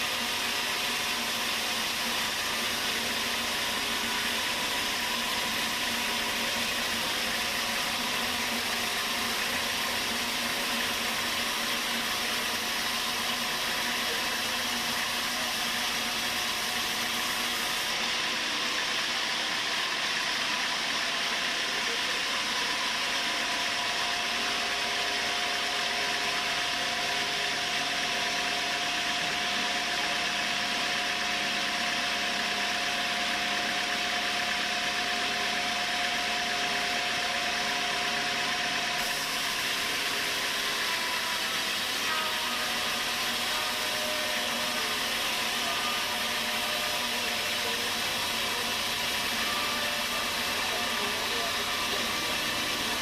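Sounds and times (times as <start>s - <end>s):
saw cutting through timber: 0.0s - 53.0s
saw whine: 0.0s - 53.0s.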